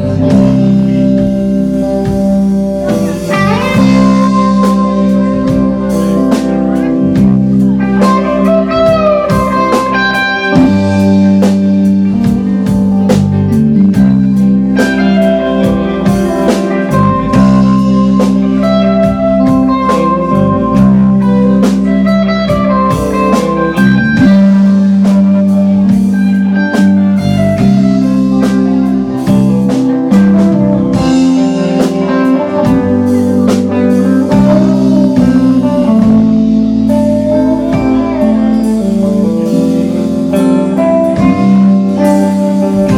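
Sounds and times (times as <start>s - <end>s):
drum kit: 0.0s - 42.9s
electric guitars: 0.0s - 42.9s
lead guitar bending notes: 0.0s - 42.9s.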